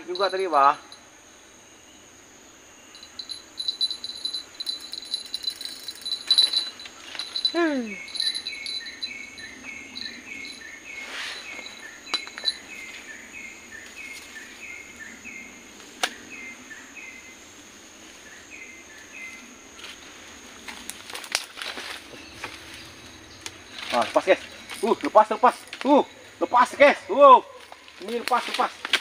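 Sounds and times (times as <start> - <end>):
insect chirping call: 0.0 - 29.0
insects droning: 0.0 - 29.0.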